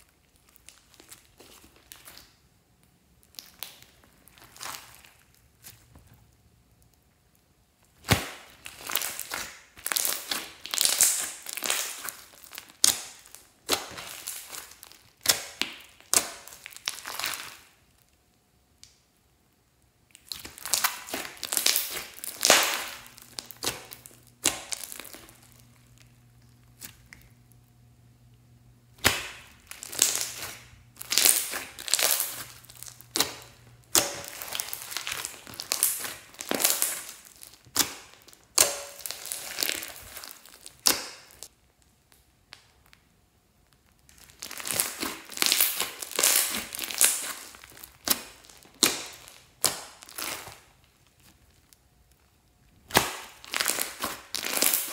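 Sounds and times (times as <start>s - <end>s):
hands squishing slime: 0.0s - 7.2s, 7.8s - 17.8s, 20.1s - 27.7s, 28.8s - 41.5s, 43.7s - 54.9s.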